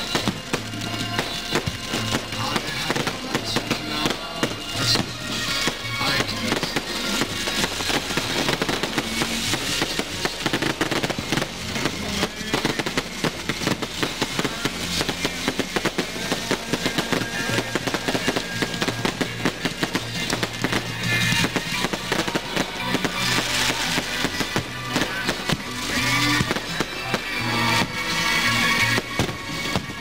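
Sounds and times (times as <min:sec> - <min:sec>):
fireworks crackling and banging: 0:00.0 - 0:30.0
music playing: 0:00.0 - 0:30.0.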